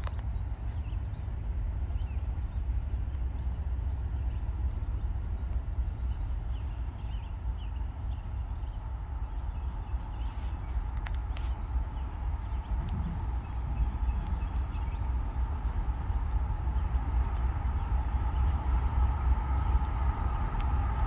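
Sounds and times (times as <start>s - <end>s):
steady low rumble: 0.0s - 21.0s
birds chirping: 0.1s - 21.0s.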